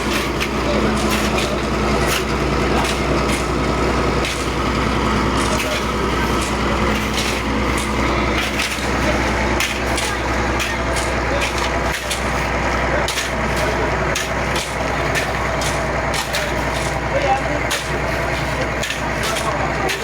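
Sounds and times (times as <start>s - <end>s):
heavy diesel engine running: 0.0s - 20.0s
knocks and crunching clatter: 0.0s - 20.0s.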